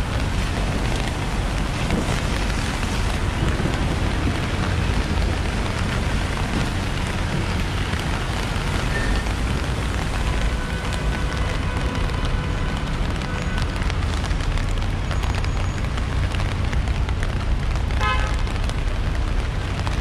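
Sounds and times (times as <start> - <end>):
rain on wet pavement: 0.0 - 20.0
street traffic rumble: 0.0 - 20.0.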